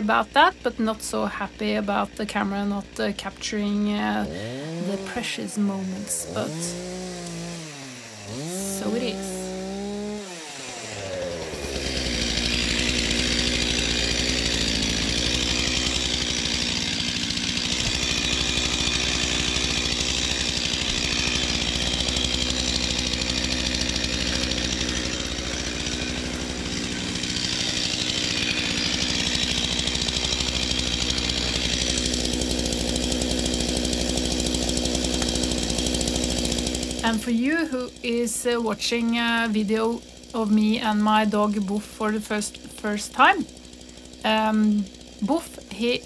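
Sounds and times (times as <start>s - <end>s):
chainsaw running at high revs: 0.0s - 46.0s.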